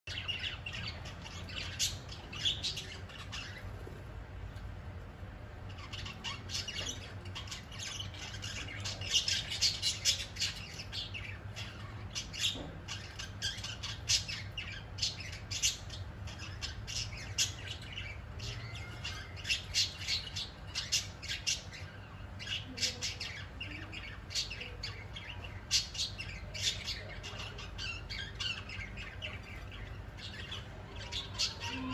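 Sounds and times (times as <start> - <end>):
birds chirping and squawking: 0.1 - 31.9
faint steady low hum: 0.1 - 31.9.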